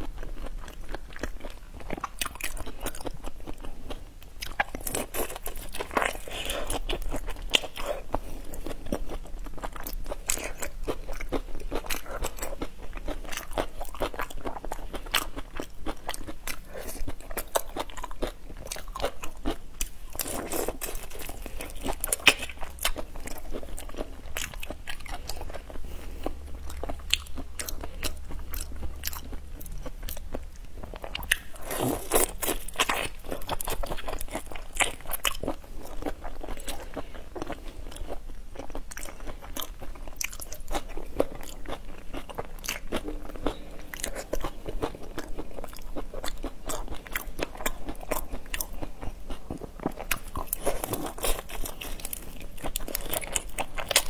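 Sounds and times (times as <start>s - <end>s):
wet chewing: 0.0s - 54.0s.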